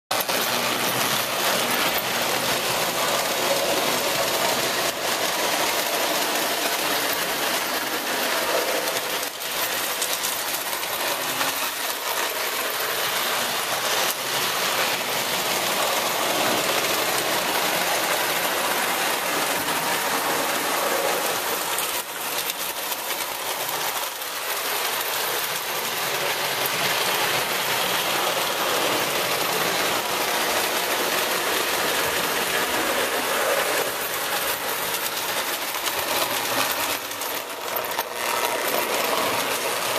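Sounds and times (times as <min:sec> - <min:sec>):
toy train whirring on metal track: 0:00.1 - 0:39.9.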